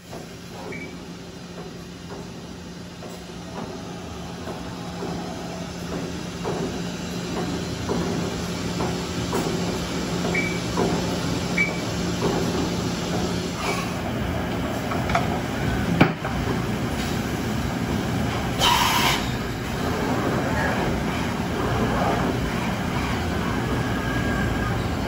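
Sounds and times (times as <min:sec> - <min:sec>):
milling machine hum: 0:00.2 - 0:25.0.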